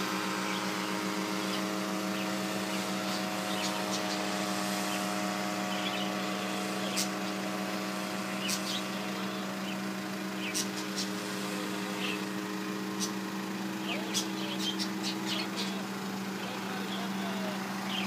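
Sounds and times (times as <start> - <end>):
helicopter engine and rotor hum: 0.0 - 18.0.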